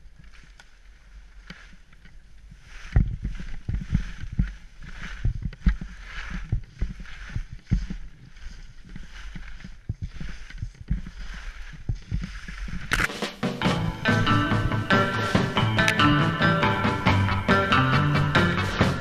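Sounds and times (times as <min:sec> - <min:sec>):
ski edges scraping on snow: 0:00.0 - 0:19.0.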